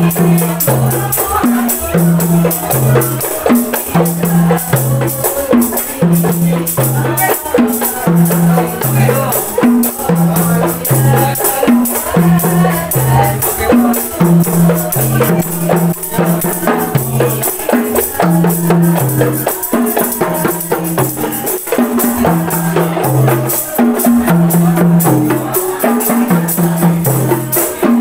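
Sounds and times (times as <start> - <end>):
frame drums struck rhythmically: 0.0 - 28.0.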